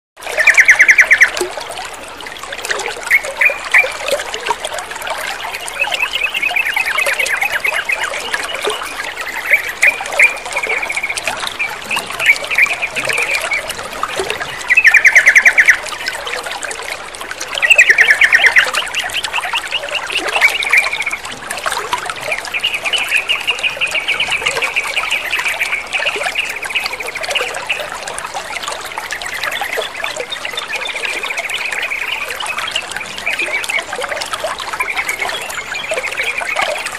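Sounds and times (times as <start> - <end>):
trickle of running water: 0.2 - 36.9.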